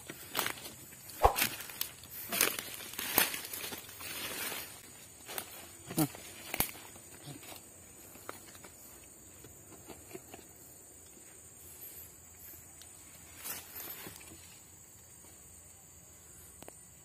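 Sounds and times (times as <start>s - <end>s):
rustle: 0.0s - 17.0s.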